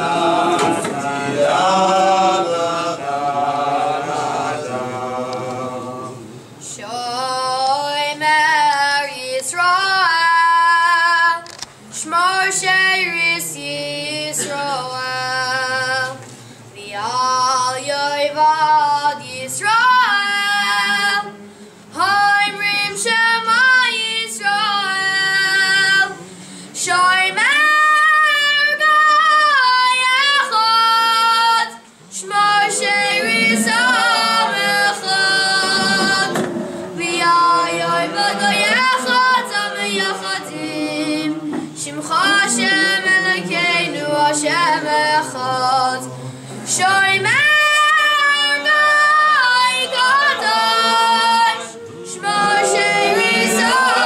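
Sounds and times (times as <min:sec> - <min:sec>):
voices singing beneath: 0:00.0 - 0:54.0.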